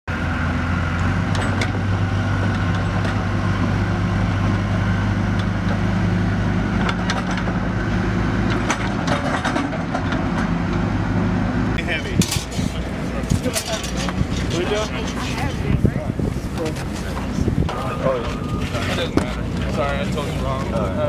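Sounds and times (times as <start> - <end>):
diesel engine droning: 0.1 - 21.0.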